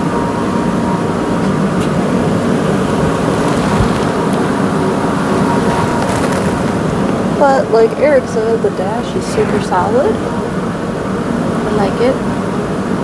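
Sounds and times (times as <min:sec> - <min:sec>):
loud steady rumbling: 0:00.0 - 0:13.0.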